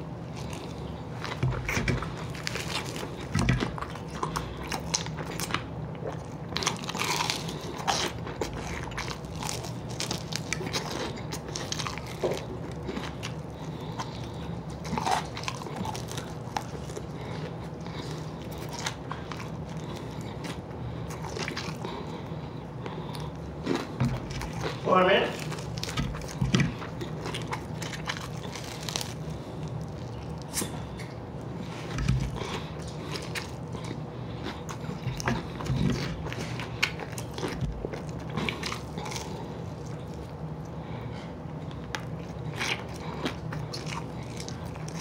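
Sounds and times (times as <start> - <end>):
person chewing crispy chicken: 0.0 - 45.0
steady low hum: 0.0 - 45.0.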